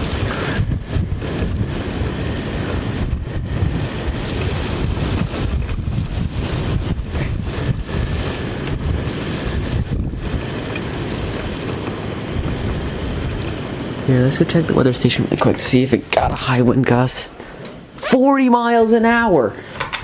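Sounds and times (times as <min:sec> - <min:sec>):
strong gusty wind buffeting microphone: 0:00.0 - 0:18.0
steady hiss: 0:00.0 - 0:20.0.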